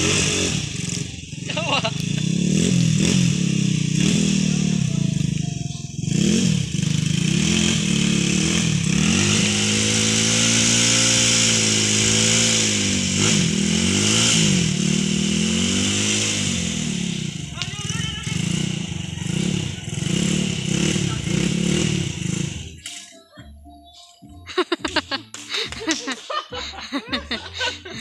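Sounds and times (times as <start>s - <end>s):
dirt bike engine revving: 0.0s - 22.9s, 24.5s - 28.0s.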